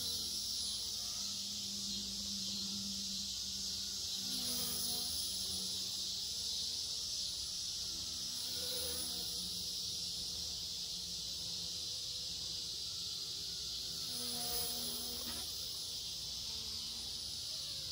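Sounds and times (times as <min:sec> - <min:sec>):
high-pitched insect chorus: 0:00.0 - 0:17.9
rc helicopter motor whine: 0:00.0 - 0:17.9.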